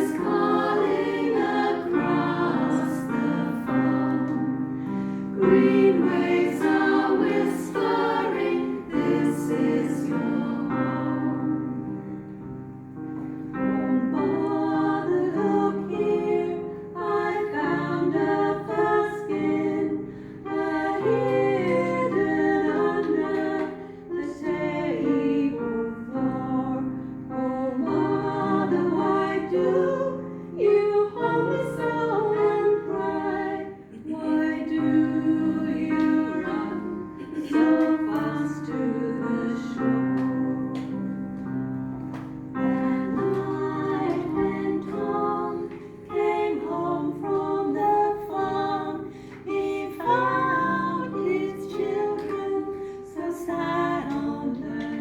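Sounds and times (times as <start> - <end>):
voices singing folk ballad in harmony: 0.0 - 12.5, 13.5 - 55.0.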